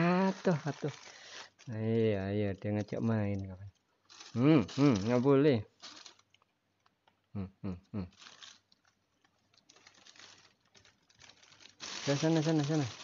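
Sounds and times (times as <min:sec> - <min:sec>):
plastic packaging crinkling: 0:00.0 - 0:06.6, 0:08.1 - 0:13.0.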